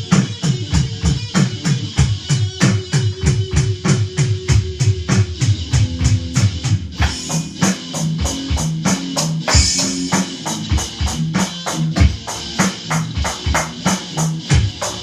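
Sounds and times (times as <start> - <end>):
electric guitar: 0.0 - 15.0
rock drum kit: 0.0 - 15.0.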